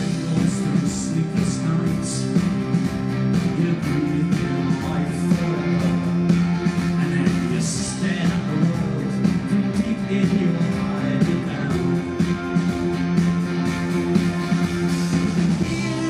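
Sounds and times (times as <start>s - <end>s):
live pop-rock band playing: 0.0s - 16.0s.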